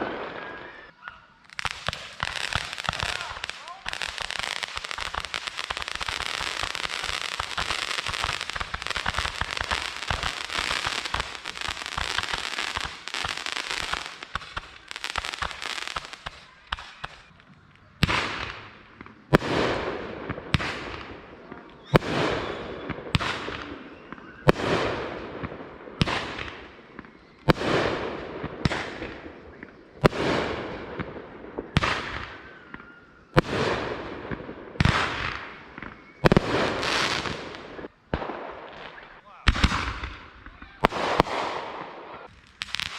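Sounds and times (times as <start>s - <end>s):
firework bangs: 0.0s - 0.9s, 1.5s - 17.4s, 18.0s - 42.9s
fireworks crackling: 0.0s - 42.9s.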